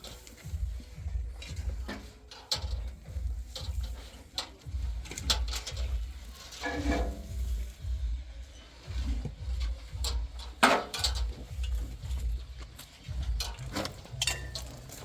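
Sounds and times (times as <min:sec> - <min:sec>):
low uneven rumble: 0:00.0 - 0:15.0.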